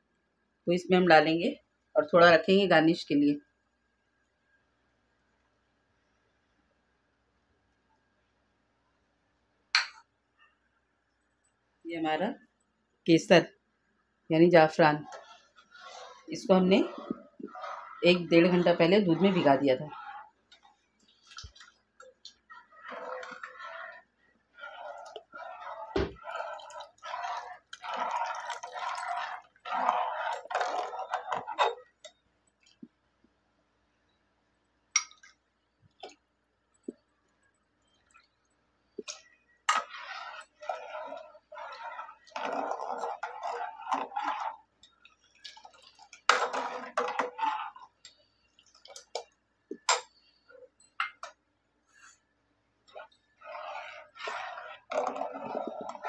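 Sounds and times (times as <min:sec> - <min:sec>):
liquid sloshing and bubbling in pot: 0:10.0 - 0:56.0.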